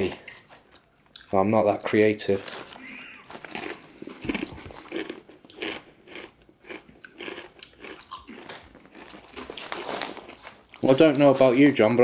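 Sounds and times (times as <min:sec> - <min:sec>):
crisps being crunched: 0:01.1 - 0:12.0.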